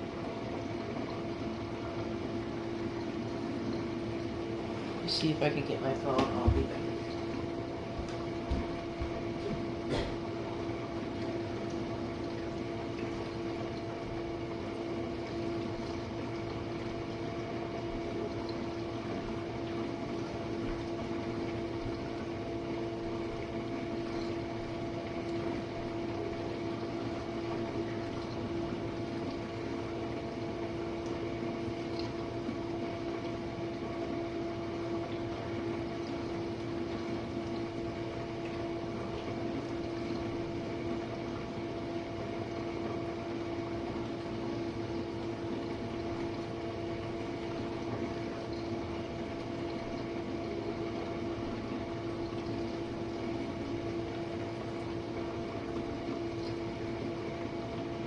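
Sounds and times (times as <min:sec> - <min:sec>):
dishwasher pump hum: 0:00.0 - 0:58.0
water washing inside tub: 0:00.0 - 0:58.0.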